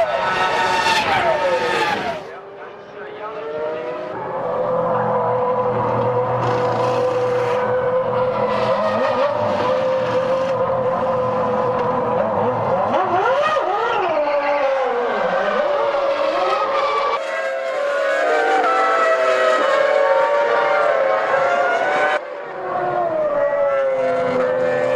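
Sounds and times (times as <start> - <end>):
racing engines at high revs: 0.0 - 24.9.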